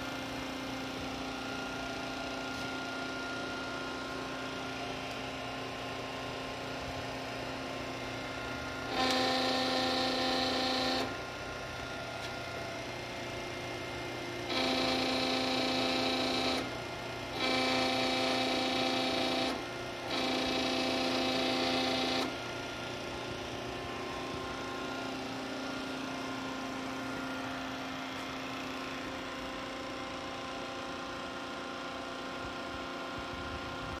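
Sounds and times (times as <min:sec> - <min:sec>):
hydraulic pump whining: 0:00.0 - 0:33.4.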